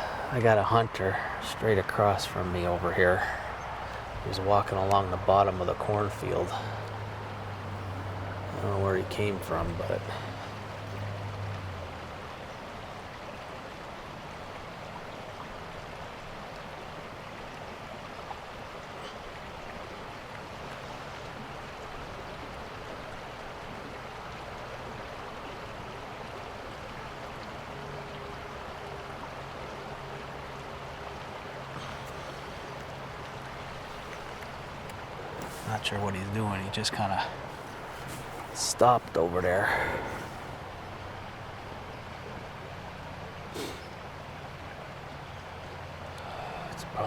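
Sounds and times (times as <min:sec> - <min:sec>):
outdoor ambient hiss: 0:00.0 - 0:47.0.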